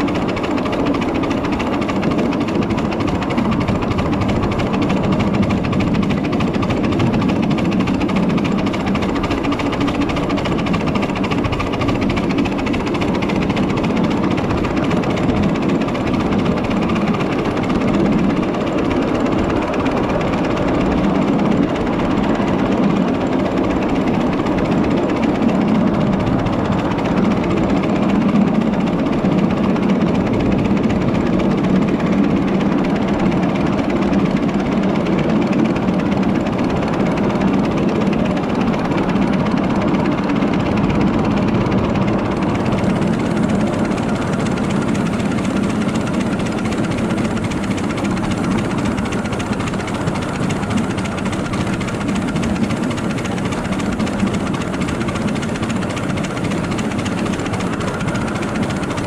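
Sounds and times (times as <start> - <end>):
miniature locomotive working: 0.0 - 59.0
train wheels rumbling on rails: 0.0 - 59.0.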